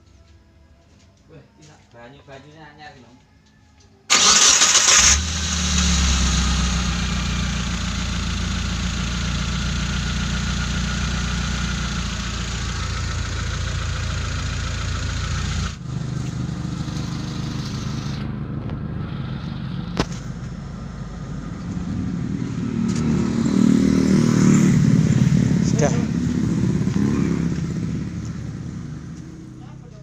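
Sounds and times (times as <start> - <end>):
engine starting and running: 4.1 - 29.5.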